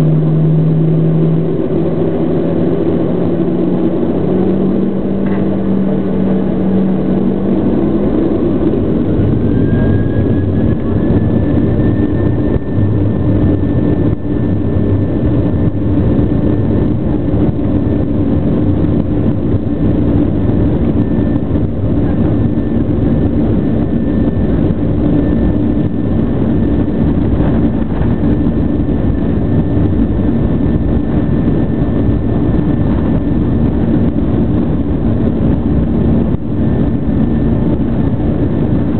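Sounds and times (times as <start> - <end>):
high engine whine: 0.0 - 38.9
jet engines rumbling: 0.0 - 38.9.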